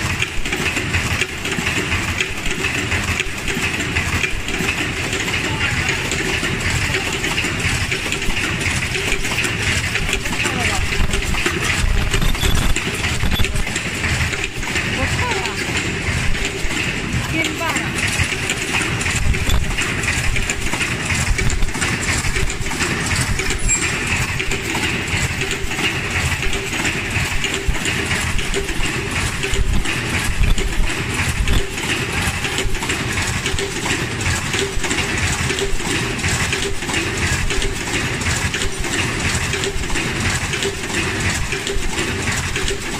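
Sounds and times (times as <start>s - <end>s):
machine clicking and clattering: 0.0s - 42.9s
steady machine hum: 0.0s - 42.9s.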